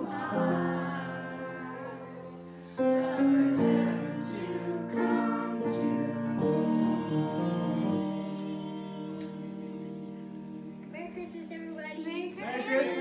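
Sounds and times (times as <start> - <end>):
voices singing a slow song: 0.0 - 10.9, 12.4 - 13.0.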